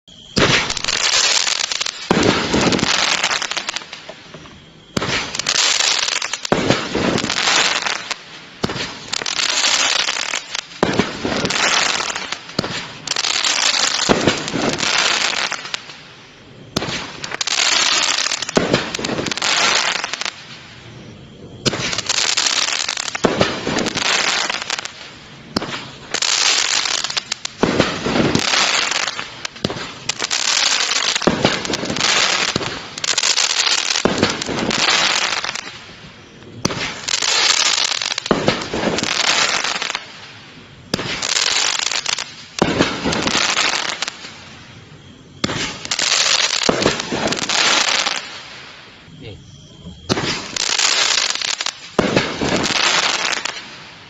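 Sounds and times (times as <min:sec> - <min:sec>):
firework crackling: 0:00.0 - 0:54.0
firework shots launching: 0:00.2 - 0:16.0, 0:16.7 - 0:20.6, 0:21.6 - 0:35.9, 0:36.5 - 0:44.6, 0:45.4 - 0:48.7, 0:50.1 - 0:53.9.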